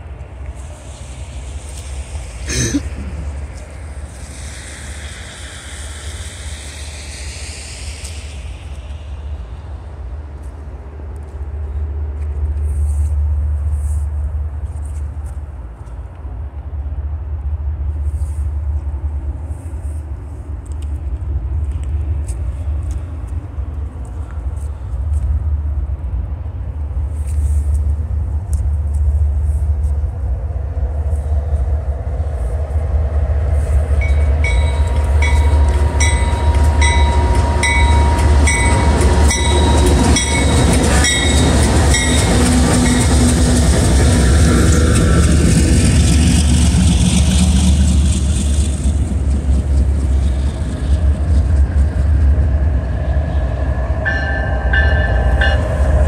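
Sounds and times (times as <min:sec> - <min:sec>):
diesel locomotives running: 0:00.0 - 0:56.0.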